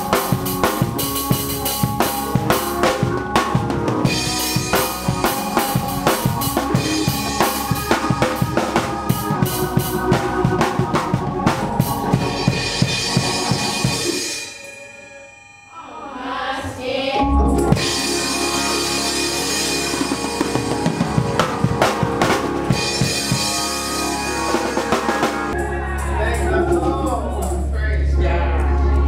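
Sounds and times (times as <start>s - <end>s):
drum kit playing: 0.0s - 14.8s, 17.3s - 27.6s.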